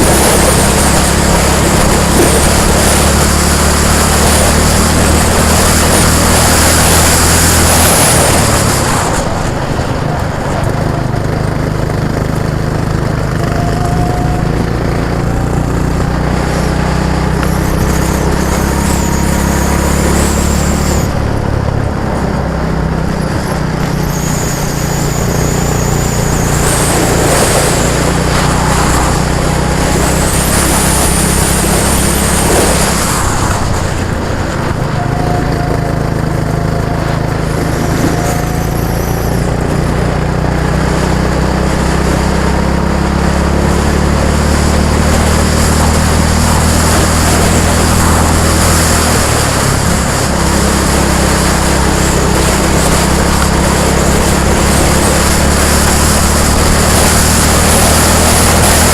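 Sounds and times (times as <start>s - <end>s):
high-pitched whine: 0.0s - 58.9s
vehicle engine running: 0.0s - 58.9s.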